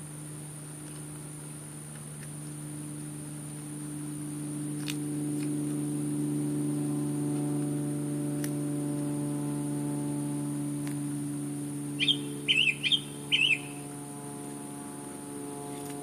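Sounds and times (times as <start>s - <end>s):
faint high whine: 0.0s - 16.0s
low machine hum: 0.0s - 16.0s.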